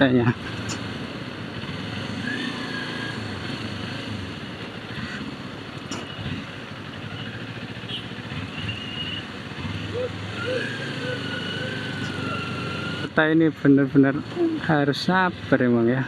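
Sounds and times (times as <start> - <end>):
motorcycle engine running: 0.0 - 16.0
street noise: 0.0 - 16.0.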